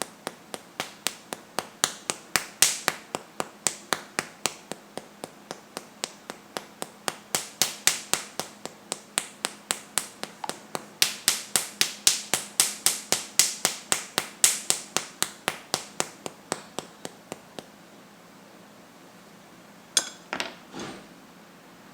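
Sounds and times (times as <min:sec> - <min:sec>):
hand patting chest: 0:00.0 - 0:17.8.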